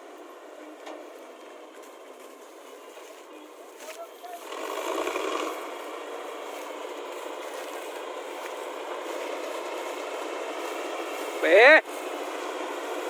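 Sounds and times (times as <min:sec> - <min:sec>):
harvesting machine drone and rattle: 0:00.0 - 0:13.0.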